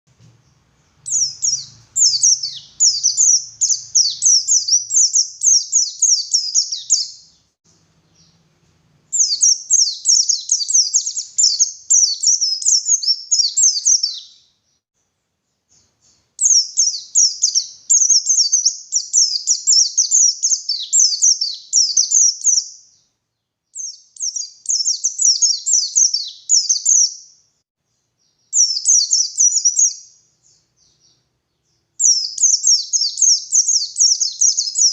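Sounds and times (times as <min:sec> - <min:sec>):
bird twittering song: 0:00.3 - 0:08.5, 0:09.1 - 0:14.8, 0:15.4 - 0:34.9.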